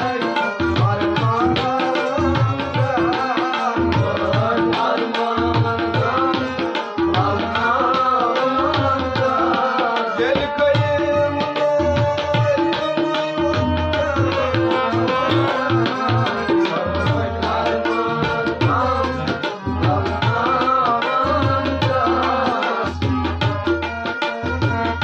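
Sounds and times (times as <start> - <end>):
harmonium melody: 0.0 - 25.0
man singing: 0.0 - 25.0
tabla rhythm: 0.0 - 25.0.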